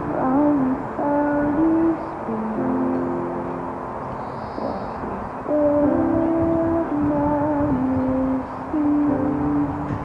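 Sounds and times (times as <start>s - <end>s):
slow music with long held notes: 0.0s - 10.0s.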